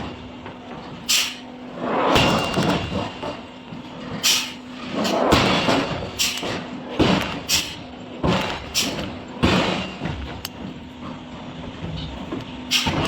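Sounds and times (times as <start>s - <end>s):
heavy forge strikes: 0.0s - 11.1s, 11.8s - 13.0s.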